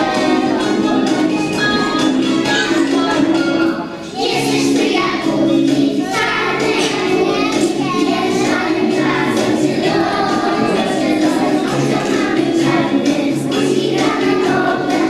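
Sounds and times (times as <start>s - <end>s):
children singing: 0.0s - 15.0s
recorded backing music: 0.0s - 15.0s.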